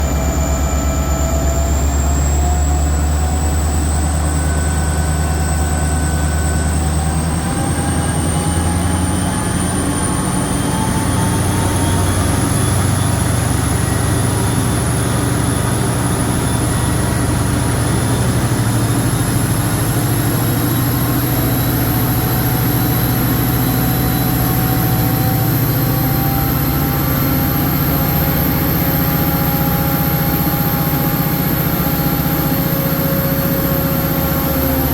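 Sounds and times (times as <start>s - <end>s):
high whine rising in pitch: 0.0s - 34.9s
locomotive engine drone: 0.0s - 34.9s.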